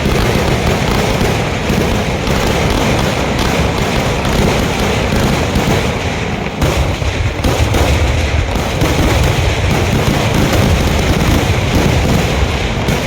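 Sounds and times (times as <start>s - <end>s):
firecrackers crackling rattle: 0.0s - 13.0s.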